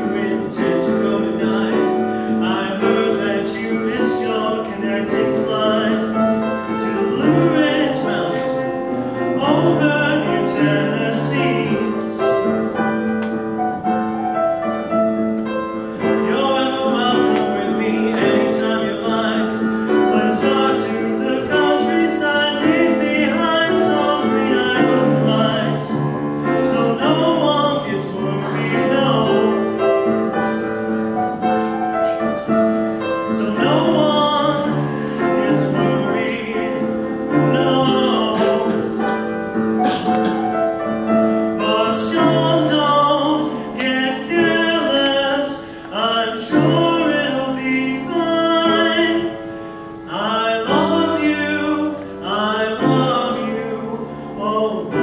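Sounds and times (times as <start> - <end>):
grand piano: 0.0 - 55.0
man singing with vibrato: 0.0 - 55.0.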